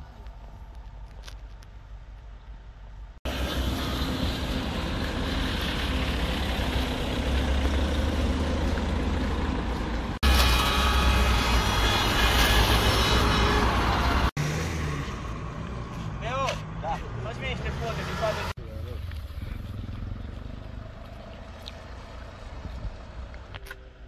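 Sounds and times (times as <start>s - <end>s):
highway traffic rumble: 0.0s - 24.0s.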